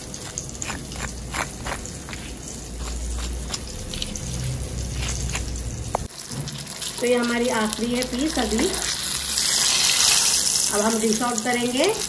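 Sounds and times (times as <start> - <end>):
fish sizzling in oil: 0.0 - 12.0
oil popping and crackling: 0.0 - 12.0.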